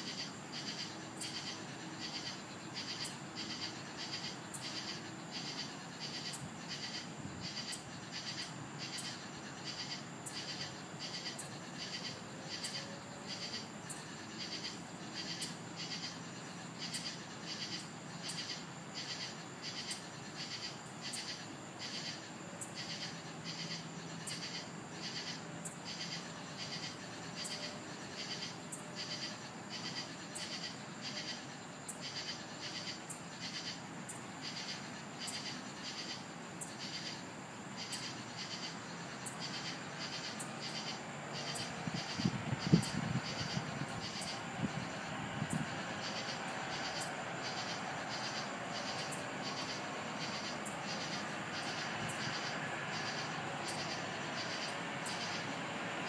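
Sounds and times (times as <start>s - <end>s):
night insects chirping: 0.0s - 56.0s.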